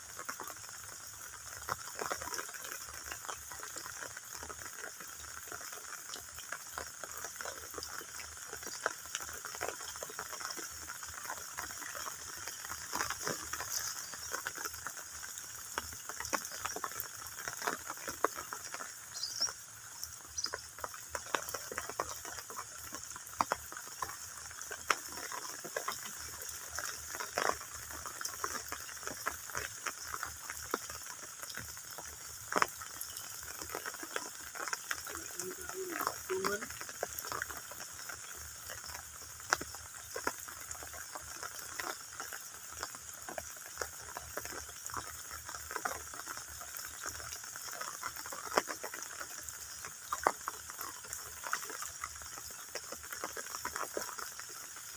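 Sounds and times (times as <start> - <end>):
shallow water trickling: 0.0 - 54.9.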